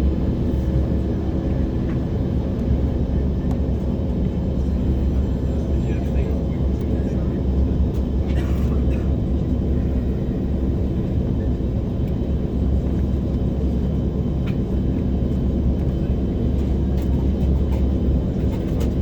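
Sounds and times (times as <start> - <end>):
low rumble of aircraft cabin: 0.0 - 19.0.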